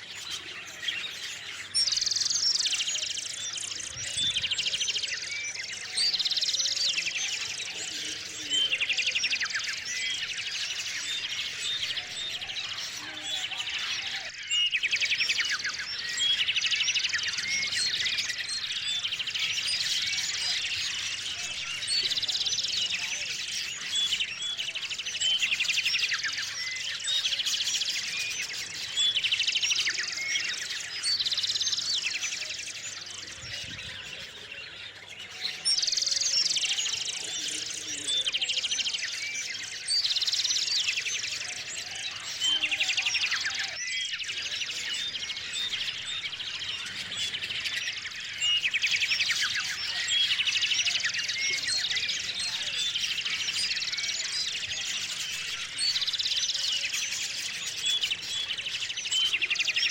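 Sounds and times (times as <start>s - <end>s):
rapid bird trilling song: 0.0s - 59.9s
songbirds chirping: 0.0s - 59.9s.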